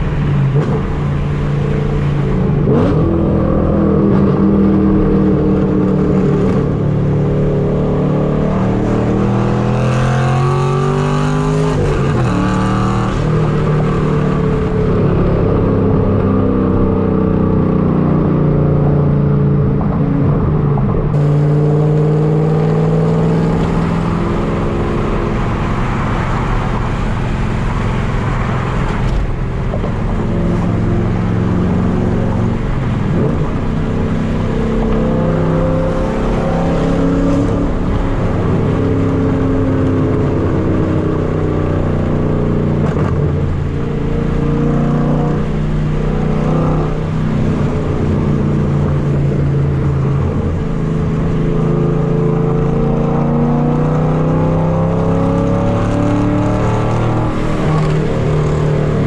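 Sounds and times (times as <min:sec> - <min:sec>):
loud car exhaust while driving: 0:00.0 - 0:59.0.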